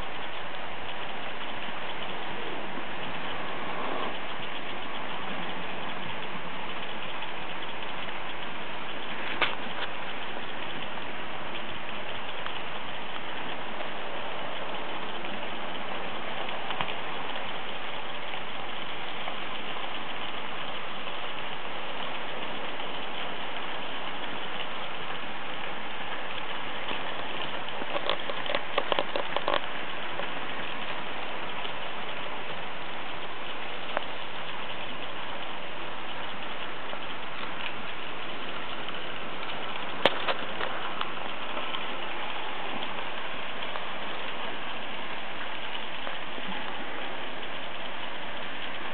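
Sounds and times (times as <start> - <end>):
sharp clicks: 0.0 - 46.8
model train wheels rattling: 0.0 - 48.9.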